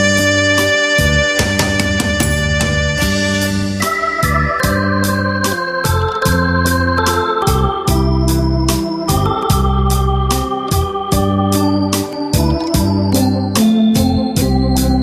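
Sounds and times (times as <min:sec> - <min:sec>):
electronic organ ballad melody: 0:00.0 - 0:15.0
steady bass line: 0:00.0 - 0:15.0
drum machine rhythm: 0:01.4 - 0:03.2, 0:04.2 - 0:14.9.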